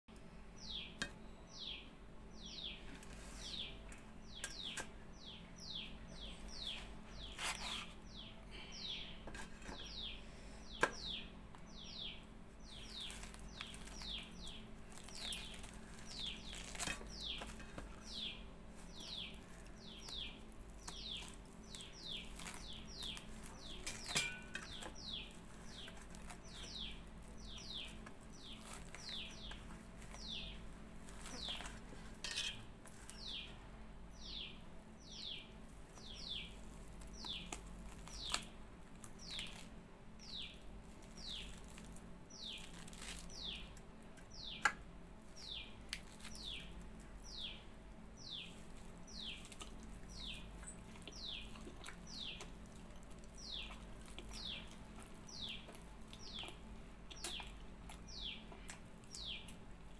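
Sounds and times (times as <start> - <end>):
small bird chirping: 0.6 - 44.7, 45.4 - 59.6.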